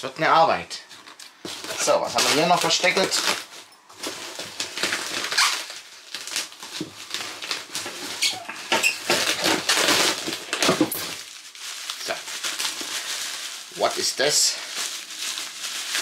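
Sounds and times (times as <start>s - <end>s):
polystyrene foam squeaking: 0.8s - 16.0s.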